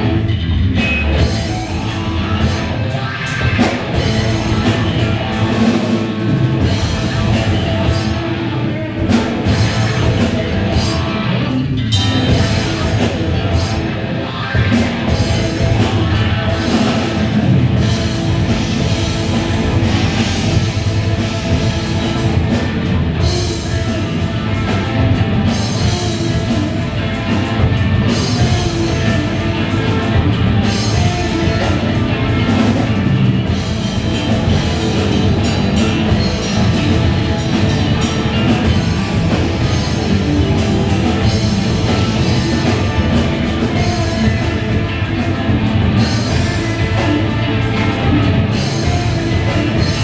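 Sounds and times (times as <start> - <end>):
heavy rock band playing: 0.0 - 50.0.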